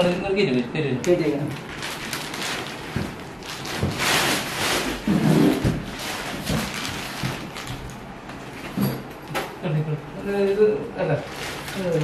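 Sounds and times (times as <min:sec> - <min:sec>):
plastic wrap rustling: 0:01.0 - 0:09.0, 0:10.4 - 0:12.0.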